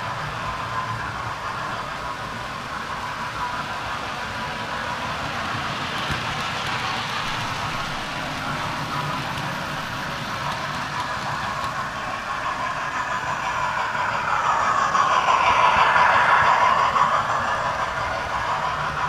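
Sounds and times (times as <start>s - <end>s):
model trains whirring on track: 0.0s - 19.0s.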